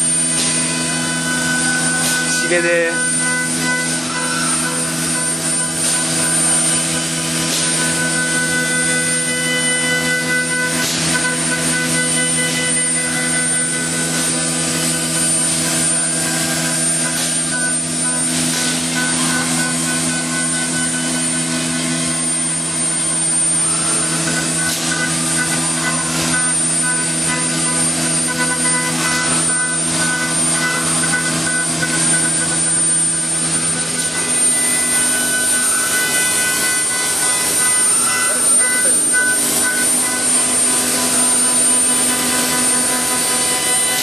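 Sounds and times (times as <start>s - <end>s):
high whine: 0.0s - 44.0s
woodworking machine humming: 0.0s - 44.0s.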